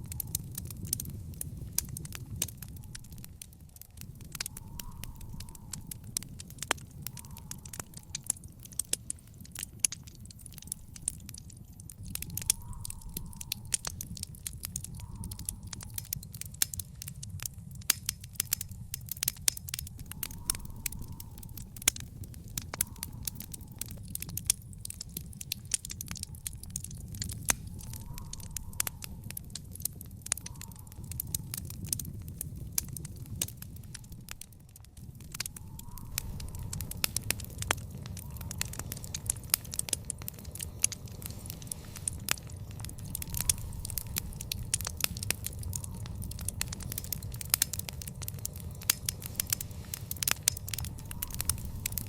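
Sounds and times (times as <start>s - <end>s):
low rumble of fire: 0.0s - 52.0s
wood fire crackling and popping: 0.0s - 52.0s.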